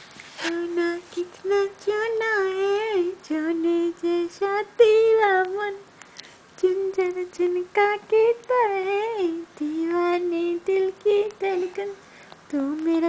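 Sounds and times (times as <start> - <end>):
woman singing: 0.4 - 5.9, 6.6 - 13.0.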